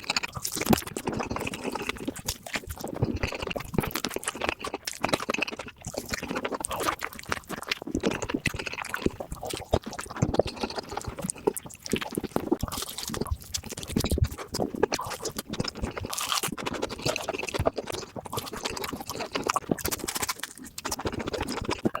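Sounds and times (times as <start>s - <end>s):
chewing a burger: 0.0s - 22.0s.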